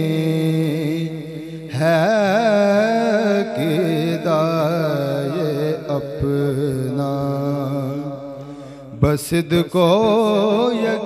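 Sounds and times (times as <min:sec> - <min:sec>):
man singing long ornamented note: 0:00.0 - 0:11.0.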